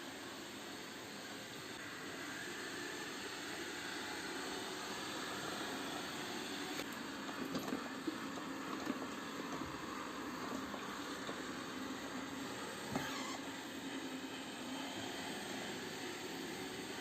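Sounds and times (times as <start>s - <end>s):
robot vacuum whirring: 1.8s - 17.0s.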